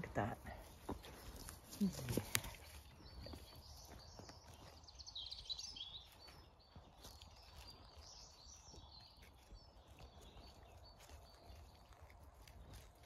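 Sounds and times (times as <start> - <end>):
faint songbirds singing: 0.0 - 13.0.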